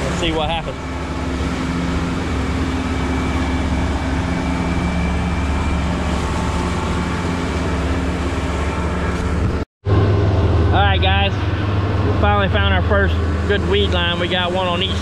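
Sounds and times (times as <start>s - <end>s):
churning wake water rushing: 0.0s - 15.0s
outboard motor humming: 0.0s - 15.0s.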